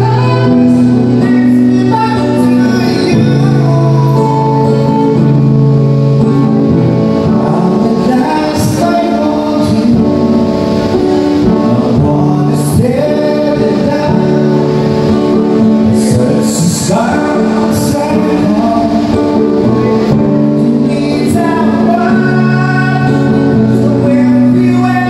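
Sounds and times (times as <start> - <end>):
acoustic guitar: 0.0 - 25.0
man singing into a microphone: 0.0 - 25.0.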